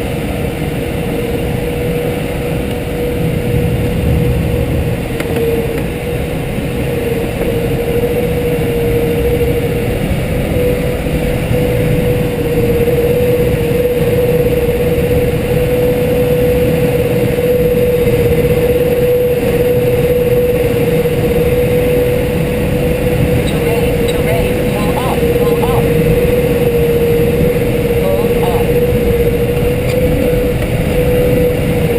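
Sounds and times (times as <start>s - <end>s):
light aircraft engine droning: 0.0s - 31.9s.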